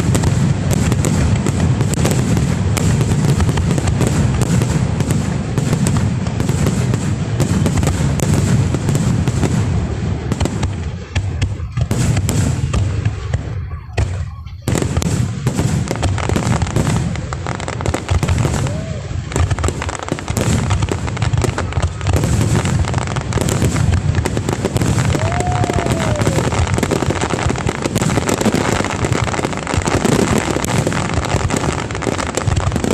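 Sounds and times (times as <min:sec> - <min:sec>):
fireworks banging: 0:00.0 - 0:32.9.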